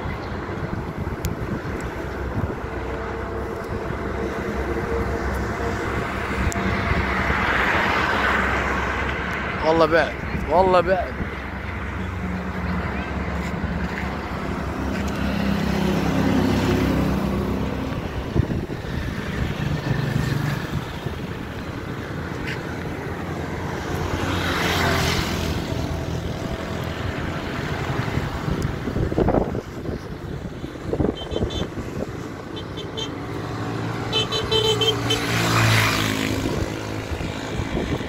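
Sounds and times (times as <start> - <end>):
traffic engine hum: 0.0 - 38.0
vehicle passing loudly: 0.4 - 38.0.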